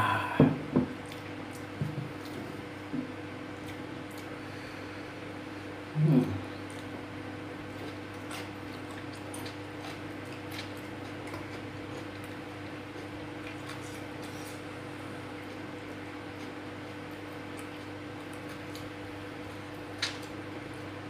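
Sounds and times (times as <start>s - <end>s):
person eating and chewing: 0.0s - 21.0s
steady low hum: 0.0s - 21.0s.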